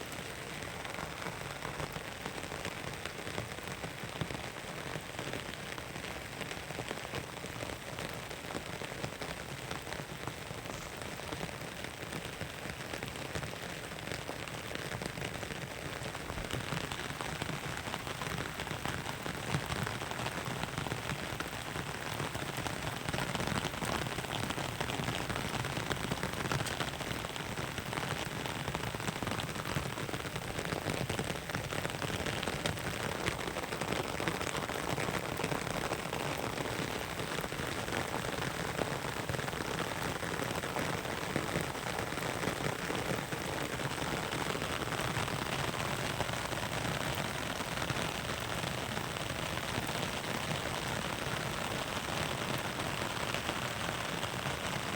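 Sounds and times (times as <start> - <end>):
heavy rain pattering: 0.0 - 54.9.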